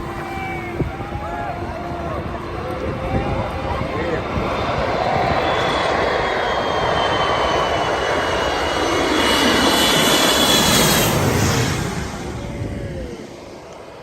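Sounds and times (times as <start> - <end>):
aircraft engines roaring: 0.0 - 14.0
high engine whine: 0.0 - 14.0.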